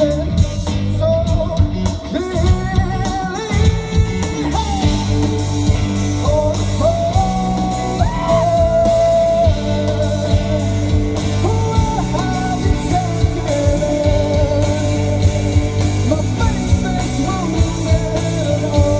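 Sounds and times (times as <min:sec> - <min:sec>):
bass guitar: 0:00.0 - 0:18.9
bending lead guitar notes: 0:00.0 - 0:18.9
drums: 0:00.0 - 0:18.9
electric guitars: 0:00.0 - 0:18.9.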